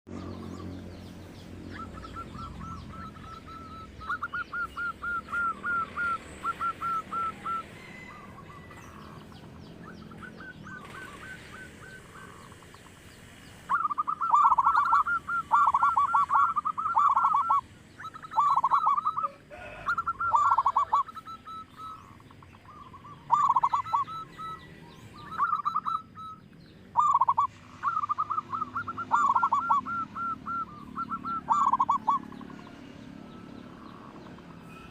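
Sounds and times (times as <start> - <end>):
small birds chirping: 0.1 - 34.9
dove cooing: 1.6 - 34.9.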